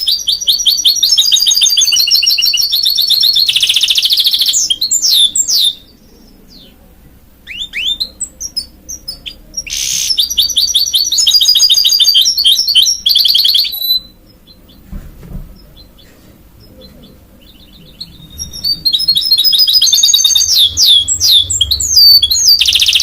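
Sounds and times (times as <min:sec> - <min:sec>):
bird singing trills: 0:00.0 - 0:06.8, 0:07.4 - 0:14.9, 0:15.5 - 0:23.0.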